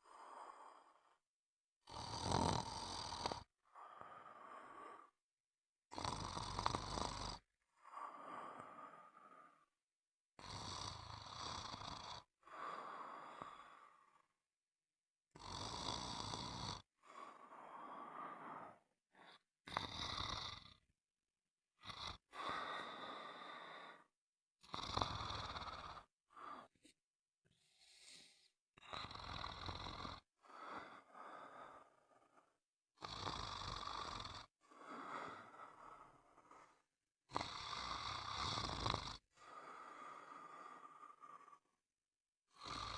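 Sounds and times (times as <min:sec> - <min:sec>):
person snoring: 0:01.8 - 0:05.2, 0:05.9 - 0:09.7, 0:10.4 - 0:14.4, 0:15.3 - 0:20.9, 0:21.8 - 0:41.8, 0:42.5 - 0:42.9.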